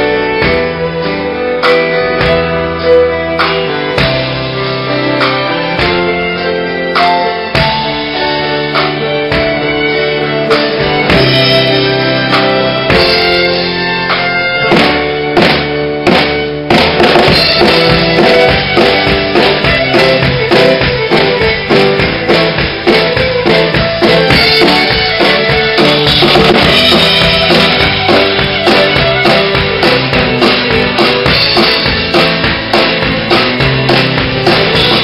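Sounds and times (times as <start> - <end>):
drum kit beat: 0.0 - 35.0
fiddle melody: 0.0 - 35.0.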